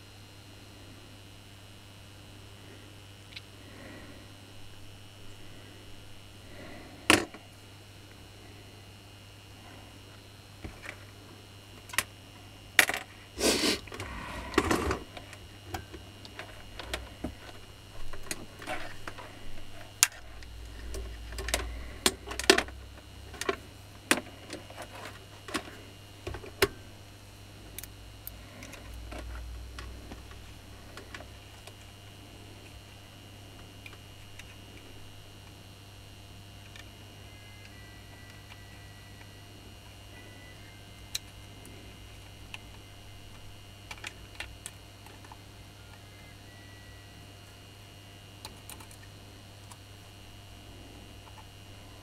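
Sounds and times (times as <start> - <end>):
faint low hum: 0.0 - 52.0.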